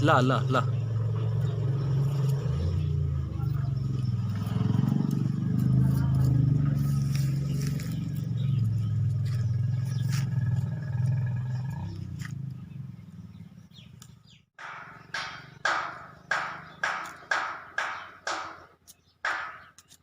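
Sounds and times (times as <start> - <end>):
low engine hum: 0.0 - 18.4.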